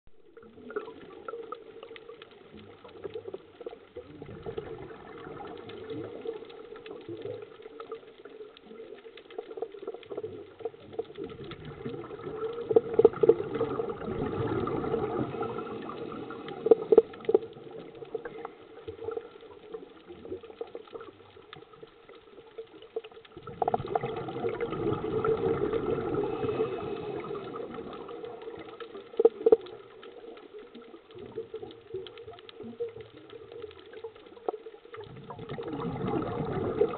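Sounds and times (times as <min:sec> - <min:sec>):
faint crackling and clicks: 0:00.1 - 0:36.9
gurgling diver bubbles underwater: 0:00.1 - 0:36.9.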